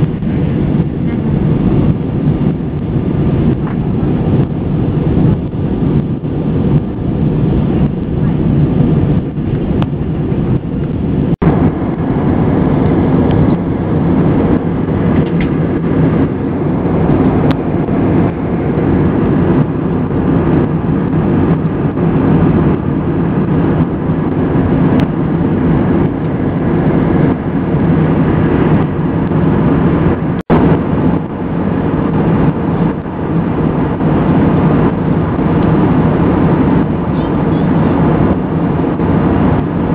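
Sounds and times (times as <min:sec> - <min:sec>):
jet engines roaring: 0:00.0 - 0:39.9
low drone: 0:00.0 - 0:39.9
rushing air: 0:00.0 - 0:39.9.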